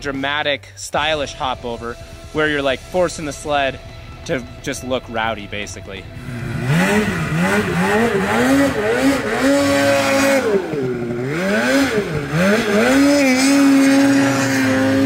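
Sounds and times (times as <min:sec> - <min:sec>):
snowmobile engine revving: 0:00.9 - 0:15.0.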